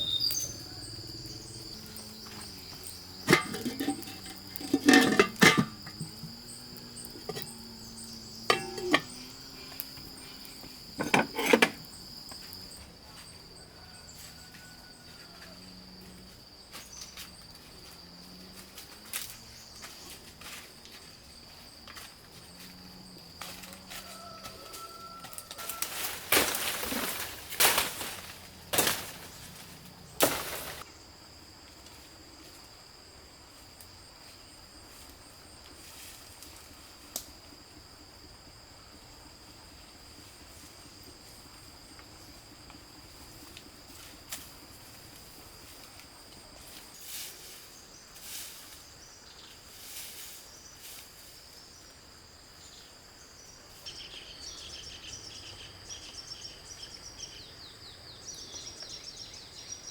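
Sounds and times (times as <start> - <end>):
high insect buzz: 0.0 - 59.9.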